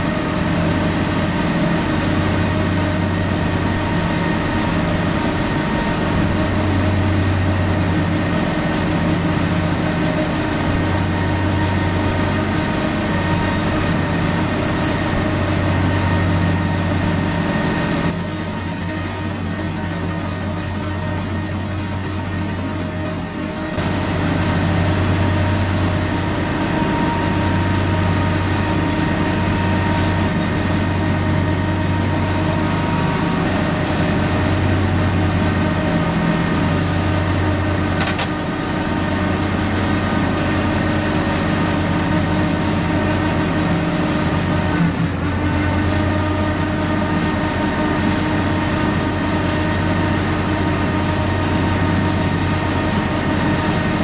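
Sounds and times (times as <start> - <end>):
tractor diesel engine mowing: 0.0 - 54.0.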